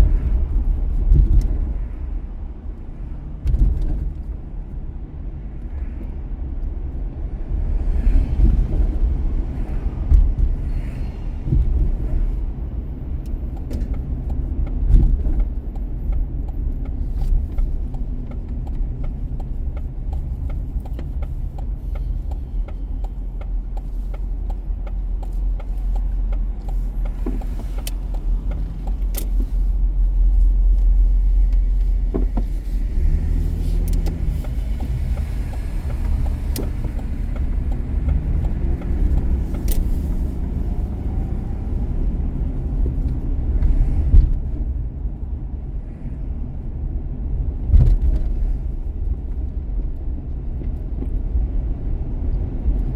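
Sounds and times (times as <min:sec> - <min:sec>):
car engine and tyre rumble: 0:00.0 - 0:52.9.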